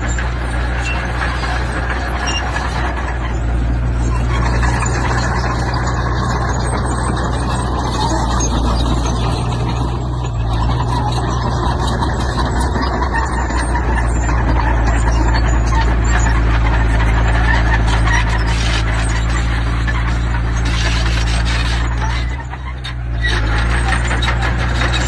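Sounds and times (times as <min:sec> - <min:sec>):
diesel engine running: 0:00.0 - 0:25.0
rough gritty noise: 0:00.0 - 0:25.0.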